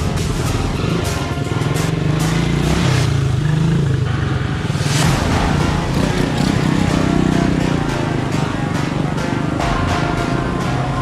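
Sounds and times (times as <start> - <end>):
electronic background music: 0.0 - 11.0
quad bike engine running: 0.0 - 11.0.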